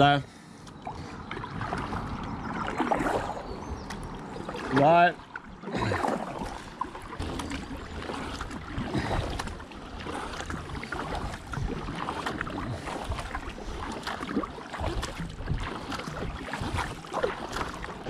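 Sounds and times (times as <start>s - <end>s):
paddle splashing in river water: 0.0s - 18.0s.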